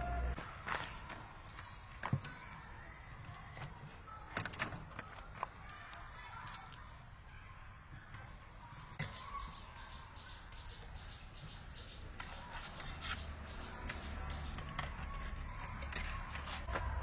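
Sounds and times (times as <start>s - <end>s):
small bird chirping: 1.4s - 16.7s.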